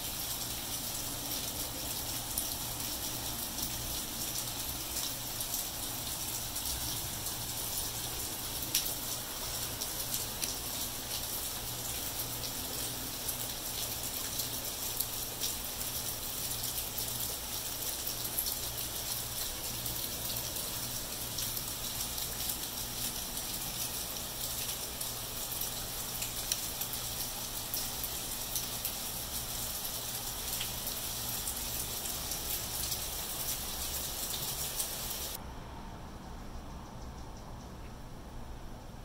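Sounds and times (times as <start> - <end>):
rain on wet pavement: 0.0 - 35.4.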